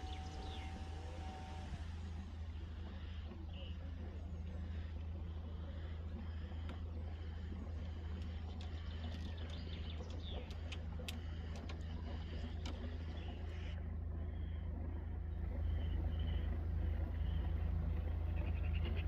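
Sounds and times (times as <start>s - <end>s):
low motor hum: 0.0s - 19.0s
small birds chirping: 2.6s - 19.0s.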